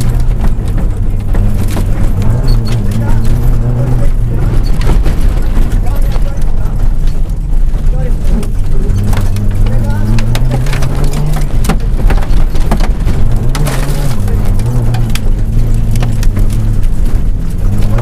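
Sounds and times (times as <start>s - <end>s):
gravel rattling against underbody: 0.0s - 18.0s
rally car engine revving: 0.0s - 18.0s.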